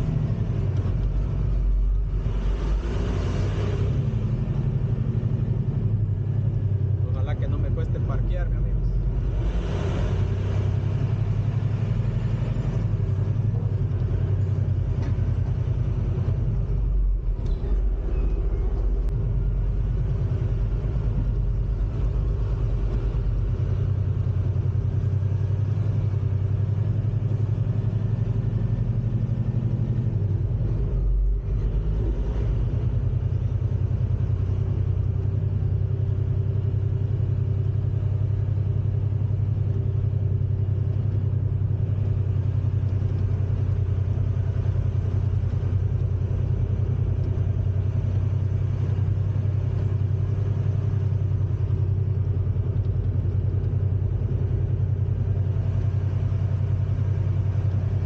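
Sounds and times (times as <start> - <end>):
diesel truck engine rumble: 0.0 - 58.0.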